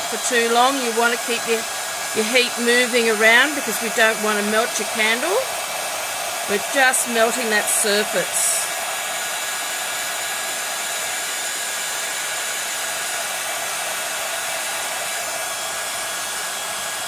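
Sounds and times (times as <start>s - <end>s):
heat tool blowing air: 0.0s - 17.0s.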